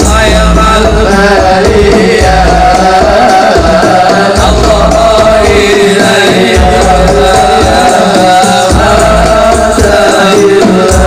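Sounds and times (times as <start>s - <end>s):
deep drum beat: 0.0s - 11.0s
frame drums: 0.0s - 11.0s
man singing devotional song: 0.0s - 11.0s.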